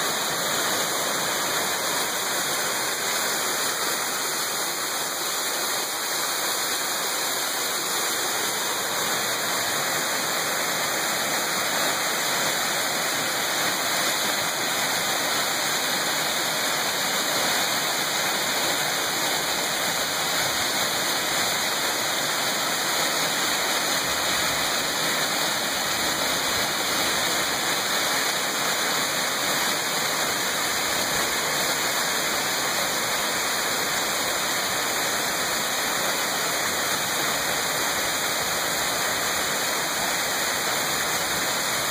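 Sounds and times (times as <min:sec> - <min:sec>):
stream rushing over boulders: 0:00.0 - 0:41.9.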